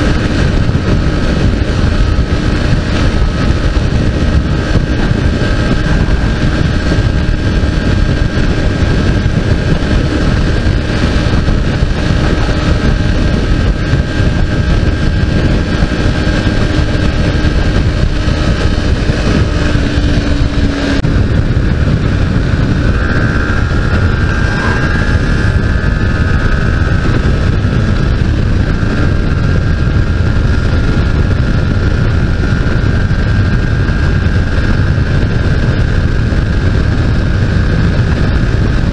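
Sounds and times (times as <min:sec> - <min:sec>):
motorcycle engine cruising: 0:00.0 - 0:38.9
wind noise on microphone: 0:00.0 - 0:38.9.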